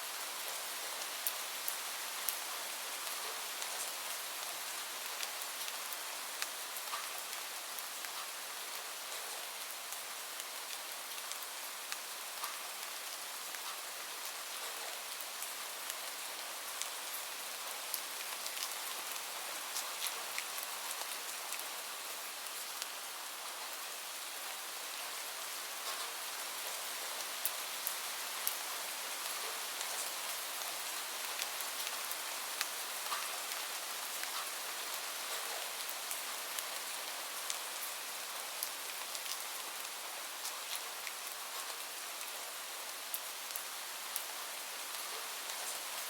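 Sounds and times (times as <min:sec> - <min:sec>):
rain falling: 0:00.0 - 0:46.0.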